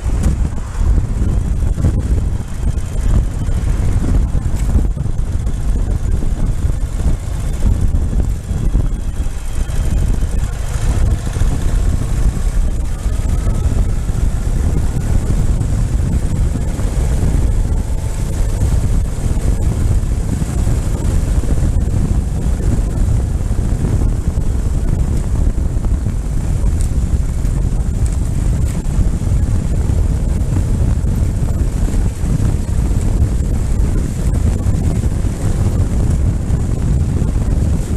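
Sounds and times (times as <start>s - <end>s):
motorcycle engine rumble: 0.0s - 37.9s
wind buffeting microphone: 0.0s - 37.9s.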